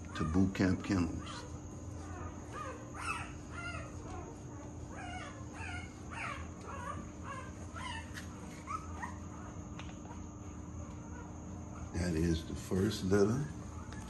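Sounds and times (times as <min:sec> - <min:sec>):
puppies whimpering and squealing: 0:00.0 - 0:14.0.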